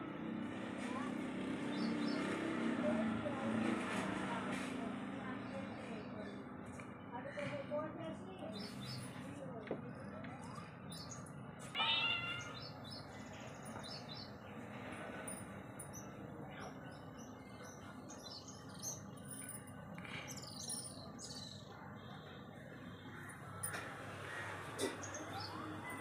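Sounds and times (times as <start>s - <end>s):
small birds chirping: 1.5s - 2.5s, 5.3s - 26.0s
low background hum: 5.2s - 26.0s.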